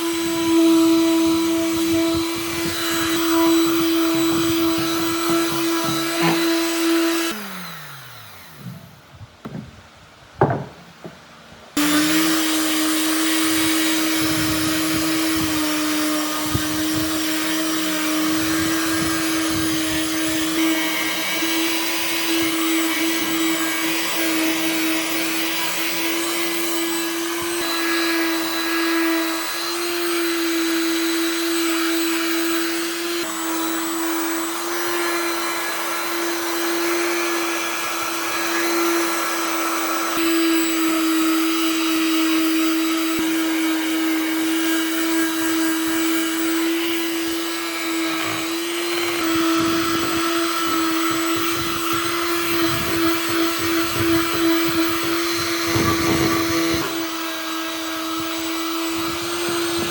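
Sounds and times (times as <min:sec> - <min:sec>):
electric power tool motor running: 0:00.0 - 0:09.0, 0:11.8 - 0:59.9.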